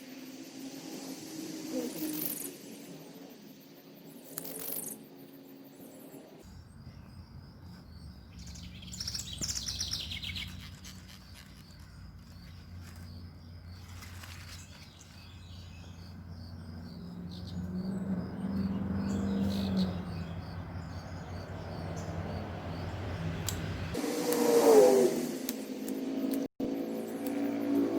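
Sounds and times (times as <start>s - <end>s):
small birds chirping: 1.1s - 24.0s.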